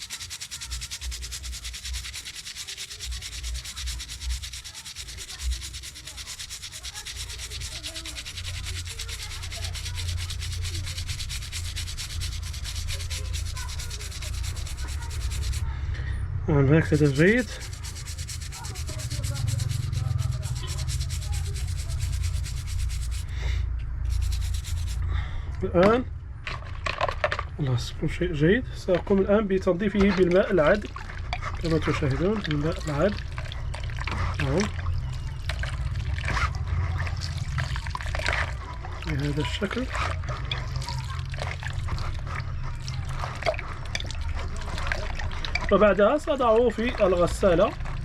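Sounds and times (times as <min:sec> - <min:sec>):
brush scrubbing circuit board: 0:00.0 - 0:15.7, 0:16.8 - 0:23.3, 0:24.0 - 0:25.0, 0:31.6 - 0:48.0.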